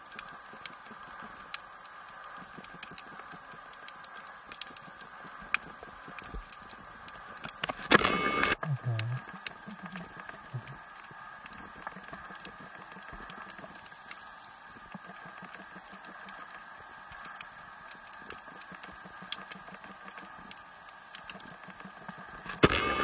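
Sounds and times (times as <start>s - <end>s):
faint steady hum: 0.0s - 23.0s
underwater clicks and crackles: 0.0s - 23.0s.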